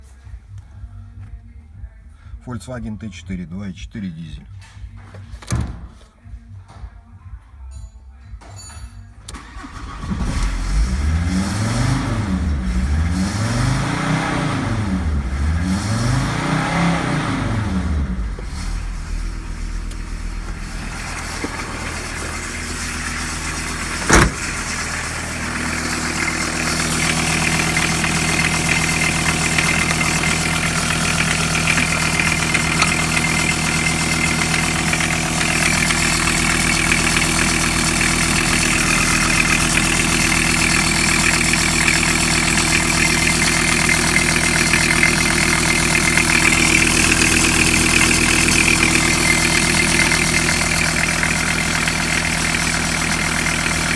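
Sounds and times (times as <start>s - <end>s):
diesel engine idling: 9.3s - 53.9s.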